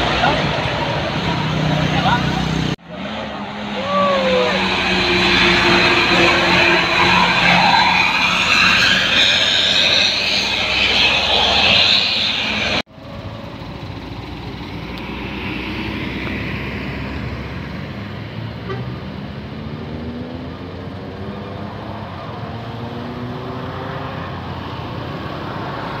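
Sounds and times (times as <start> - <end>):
bus engine accelerating: 0.0 - 26.0
road traffic: 0.0 - 26.0.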